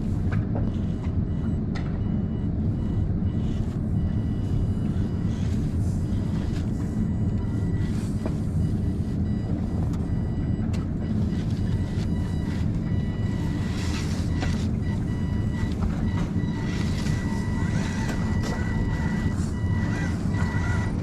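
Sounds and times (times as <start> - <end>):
electric motor rumble: 0.0 - 21.0.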